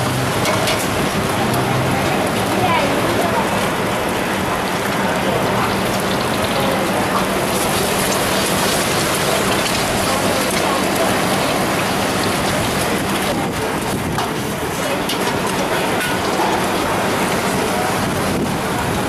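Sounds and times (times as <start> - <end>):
eggs sizzling in hot oil: 0.0 - 3.8, 4.6 - 17.5.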